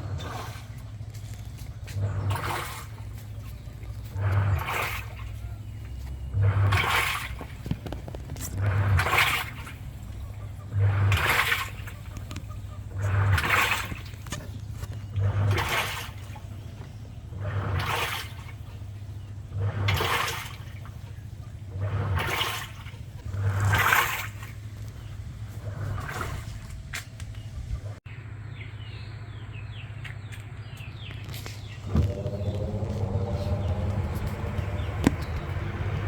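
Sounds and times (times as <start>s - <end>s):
water and clothes swishing: 0.0s - 28.0s, 31.1s - 36.0s
washing machine drum surging: 1.8s - 27.0s, 31.8s - 36.0s.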